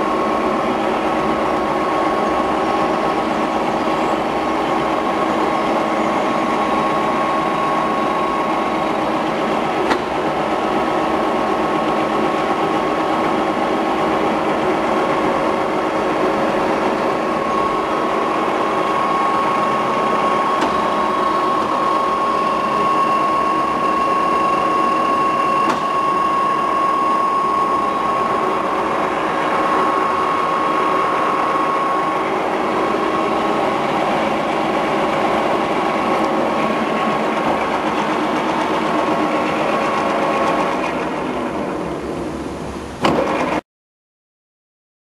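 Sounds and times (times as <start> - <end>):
boring mill humming and whining: 0.0 - 43.6.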